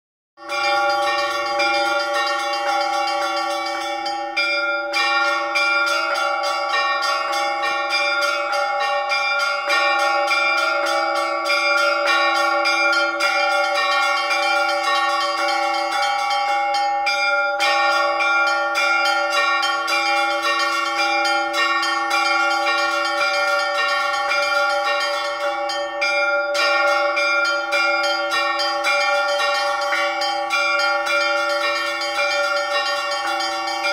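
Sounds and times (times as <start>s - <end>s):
lower bells ringing: 0.4s - 33.9s
small high bells striking rapidly: 0.4s - 33.9s.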